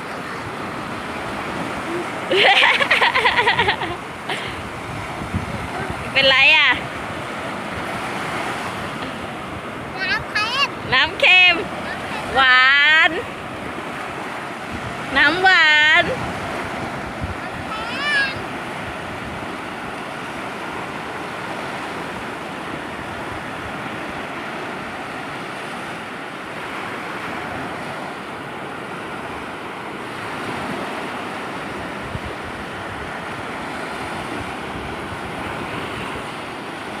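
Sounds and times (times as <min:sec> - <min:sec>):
sea waves washing onto beach: 0:00.0 - 0:37.0
wind buffeting microphone: 0:03.2 - 0:26.2, 0:30.2 - 0:37.0.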